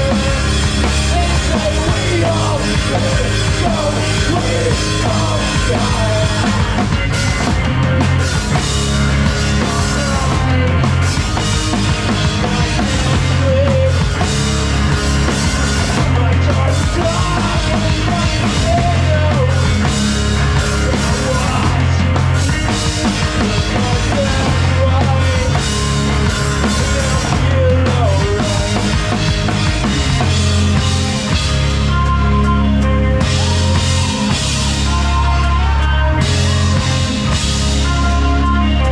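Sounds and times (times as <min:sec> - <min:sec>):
punk rock band playing loud: 0:00.0 - 0:38.9.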